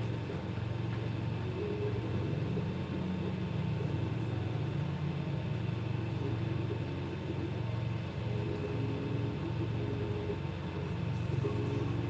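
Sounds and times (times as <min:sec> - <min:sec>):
fans humming: 0:00.0 - 0:12.0.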